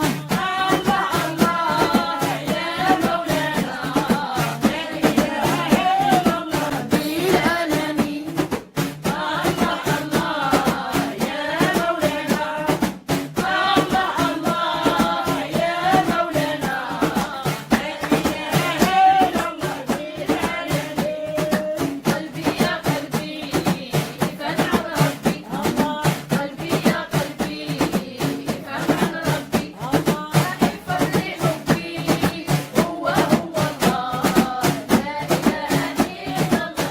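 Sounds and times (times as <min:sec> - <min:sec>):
voices chanting: 0:00.0 - 0:08.2, 0:09.1 - 0:12.8, 0:13.4 - 0:36.9
drum strikes: 0:00.0 - 0:36.9.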